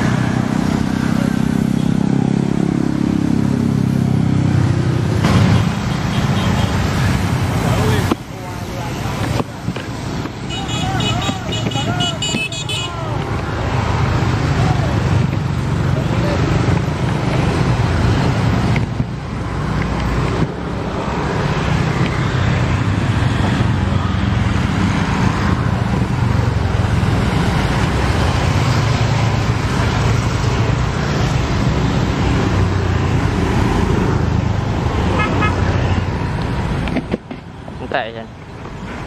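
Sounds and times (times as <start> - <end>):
traffic passing close by: 0.0 - 39.0.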